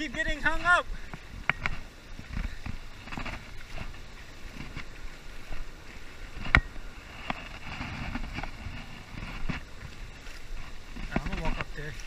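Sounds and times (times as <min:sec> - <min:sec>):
wind buffeting the microphone: 0:00.0 - 0:12.0.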